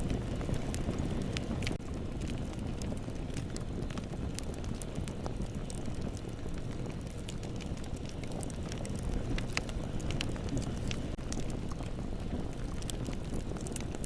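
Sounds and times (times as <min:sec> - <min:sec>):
bonfire flames rushing: 0:00.0 - 0:14.0
burning wood crackling and popping: 0:00.0 - 0:14.0.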